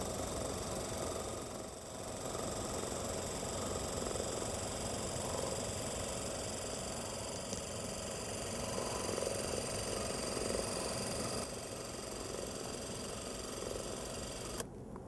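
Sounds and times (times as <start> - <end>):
film projector motor whirring: 0.0 - 14.7.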